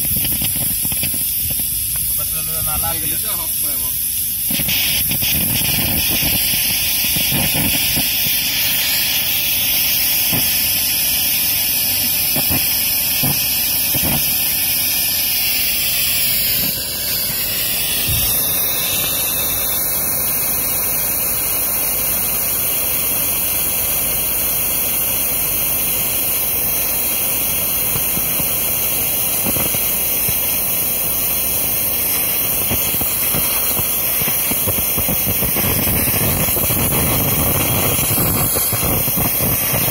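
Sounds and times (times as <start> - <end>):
rocket motor hissing: 0.0 - 39.9.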